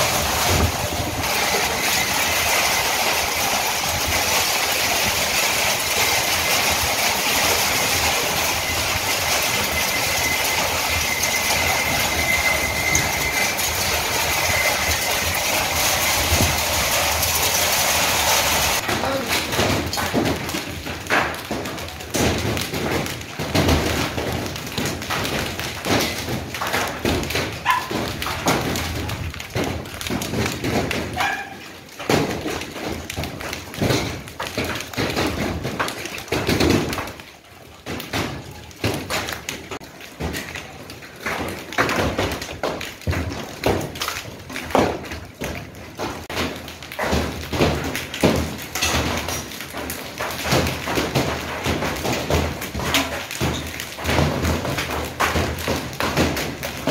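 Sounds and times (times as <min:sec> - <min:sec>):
hailstones pelting hard surfaces: 0:00.0 - 0:56.9.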